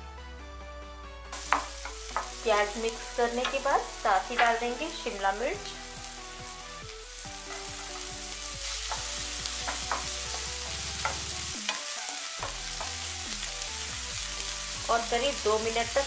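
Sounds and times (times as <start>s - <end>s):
vegetables sizzling in a frying pan: 1.3s - 16.0s.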